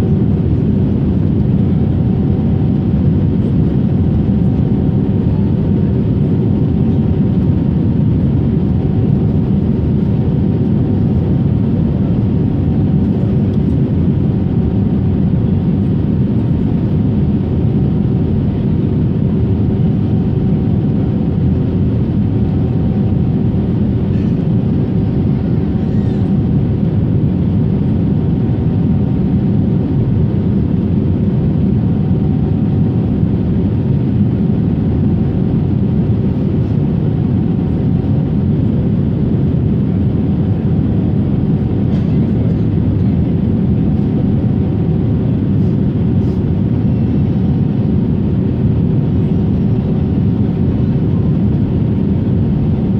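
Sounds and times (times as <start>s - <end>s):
airliner cabin drone: 0.0s - 52.9s.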